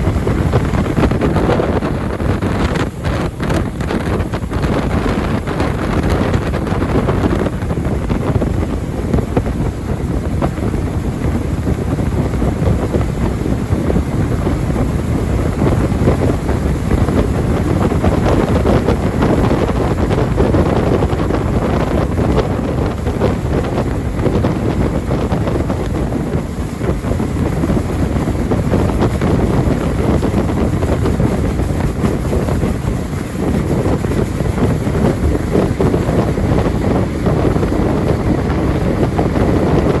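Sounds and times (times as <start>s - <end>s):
jet boat engine: 0.0s - 40.0s
water rushing: 0.0s - 40.0s
wind on microphone: 0.0s - 40.0s.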